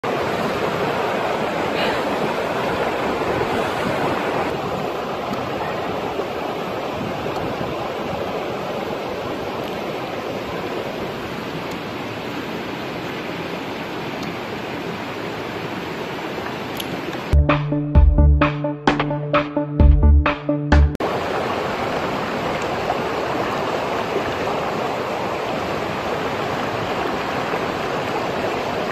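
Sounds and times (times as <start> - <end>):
river rushing over rocks: 0.0 - 17.4, 21.0 - 28.9.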